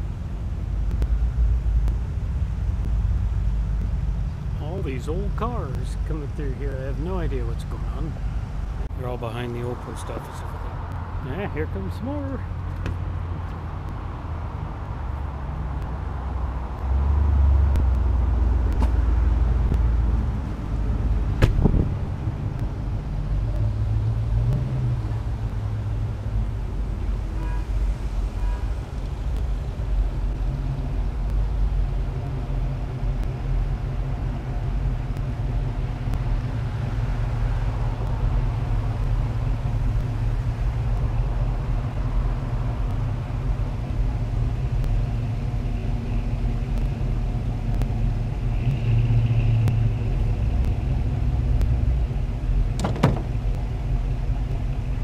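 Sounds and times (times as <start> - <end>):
car engines running: 0.0 - 55.0.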